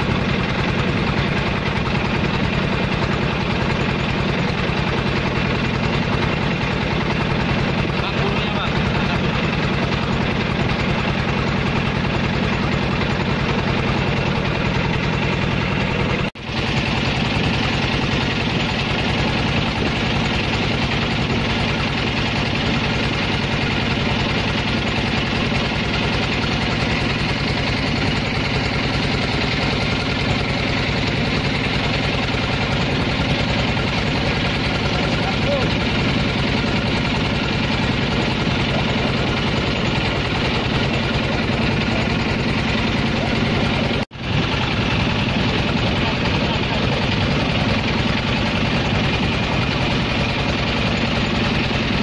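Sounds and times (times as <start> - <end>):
boat engine chugging: 0.0 - 52.0.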